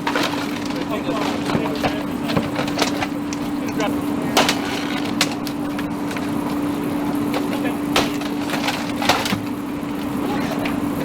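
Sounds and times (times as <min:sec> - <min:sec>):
wood splintering and cracking: 0:00.0 - 0:10.2
steady low hum: 0:00.0 - 0:11.0.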